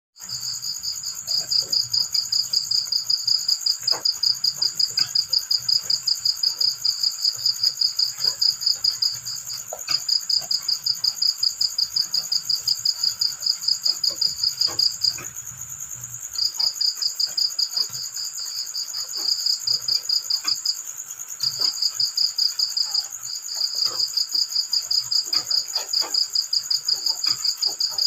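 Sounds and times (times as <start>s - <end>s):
crickets chirping: 0.2s - 28.0s
high-pitched insect trill: 0.2s - 28.0s.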